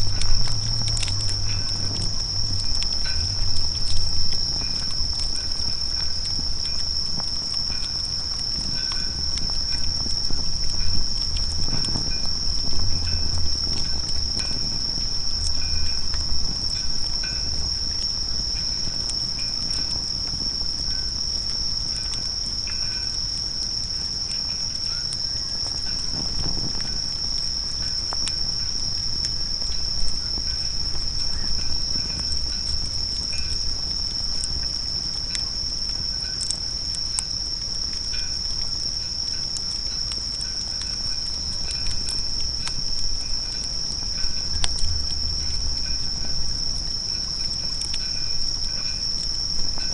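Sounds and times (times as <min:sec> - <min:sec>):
campfire crackling: 0:00.0 - 0:49.9
insects chirring: 0:00.0 - 0:49.9.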